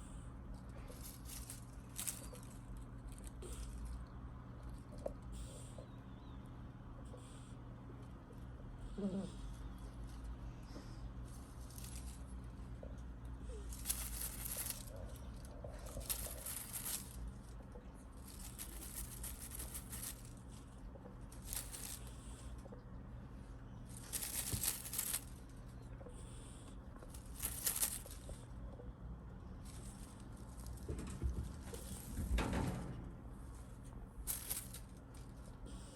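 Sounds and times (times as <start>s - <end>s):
kitten rustling and scratching: 0.0s - 6.4s, 7.0s - 35.9s
steady low hum: 0.0s - 35.9s.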